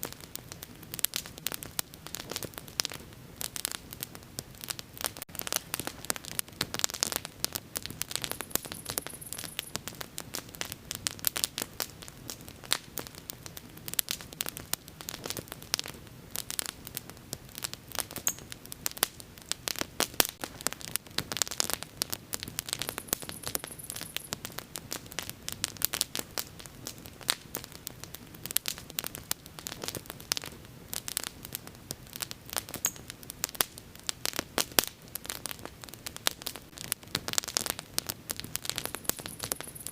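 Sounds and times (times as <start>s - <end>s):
bonfire crackling and popping: 0.0s - 39.9s
soft steady hiss: 0.0s - 39.9s.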